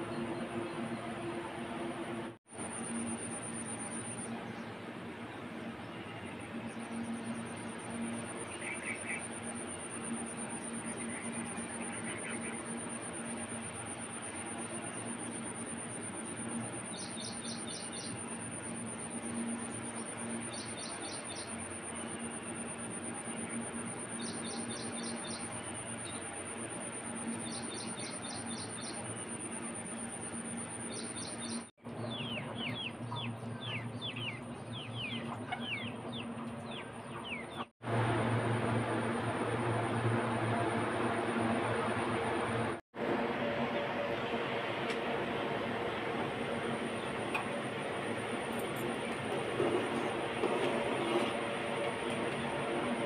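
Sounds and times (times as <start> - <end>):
steady high-pitched whine: 0.0 - 53.0.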